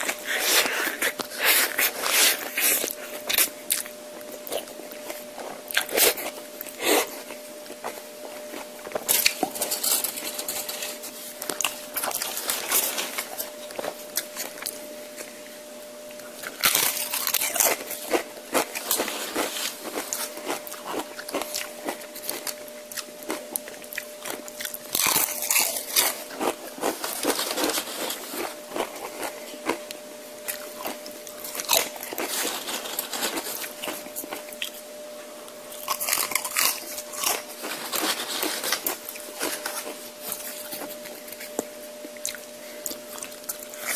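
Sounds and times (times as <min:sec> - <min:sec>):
crisp crunching of chips: 0:00.0 - 0:15.4, 0:16.0 - 0:34.8, 0:35.7 - 0:43.9
faint steady hum: 0:00.0 - 0:43.9.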